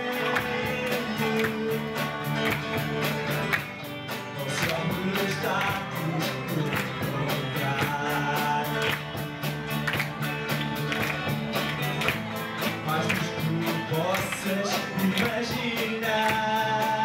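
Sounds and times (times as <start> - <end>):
drums fast beat: 0.0 - 17.0
rock band playing: 0.0 - 17.0.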